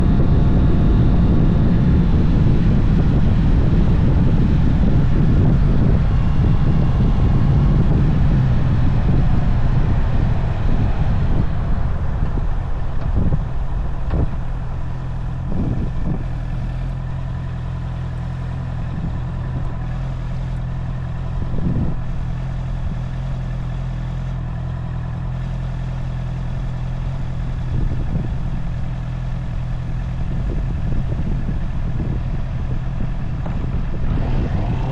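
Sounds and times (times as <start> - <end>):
wind noise on microphone: 0.0 - 24.0, 26.1 - 34.9
motorcycle engine running: 0.0 - 34.9.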